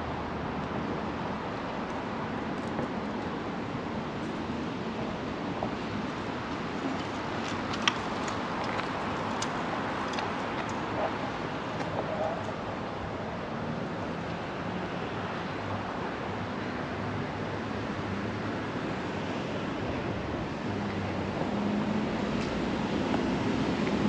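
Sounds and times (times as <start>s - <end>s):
passing traffic: 0.0s - 24.0s.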